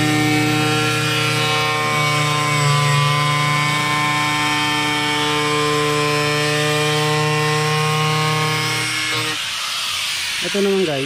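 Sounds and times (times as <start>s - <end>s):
angle grinder cutting laminate: 0.0s - 11.0s.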